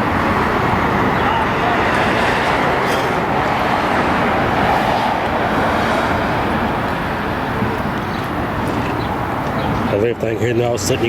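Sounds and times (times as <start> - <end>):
traffic rumble and hiss: 0.0 - 11.0.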